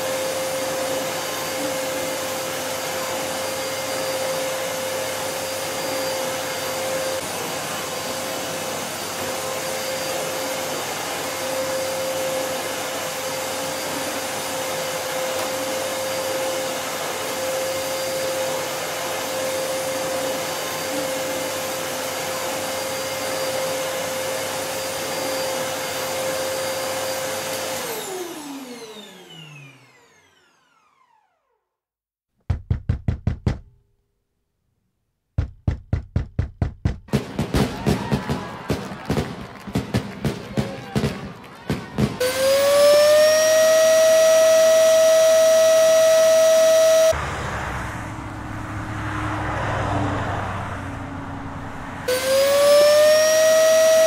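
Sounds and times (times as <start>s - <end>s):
vacuum cleaner running: 0.0s - 31.6s, 35.4s - 54.0s.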